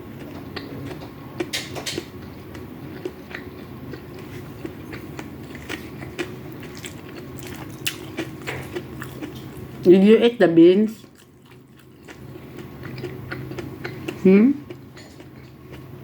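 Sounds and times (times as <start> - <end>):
steady low hum: 0.0 - 16.0
chewing and mouth sounds: 0.2 - 9.9, 10.9 - 16.0.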